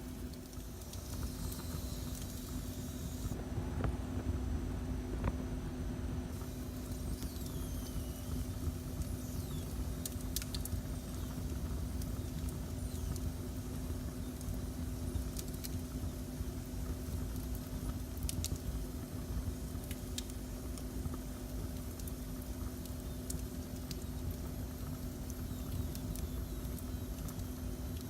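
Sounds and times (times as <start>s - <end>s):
burning wood pops and crackles: 0.0s - 3.4s, 6.4s - 28.0s
constant hum: 0.0s - 28.0s.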